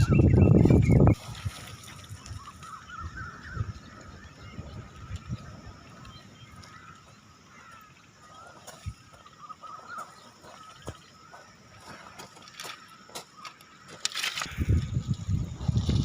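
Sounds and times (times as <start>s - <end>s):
faint chirping bird calls: 0.0s - 1.4s, 2.0s - 14.6s.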